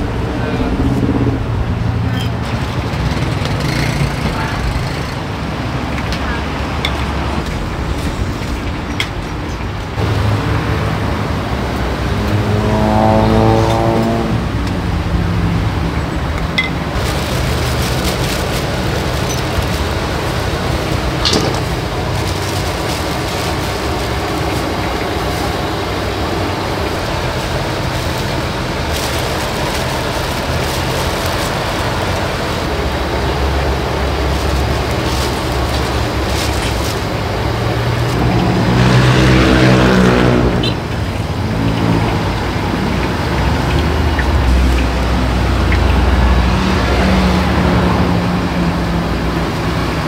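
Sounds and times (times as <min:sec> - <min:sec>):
heavy vehicle engine passing: 0:00.0 - 0:50.0
road traffic noise: 0:00.0 - 0:50.0.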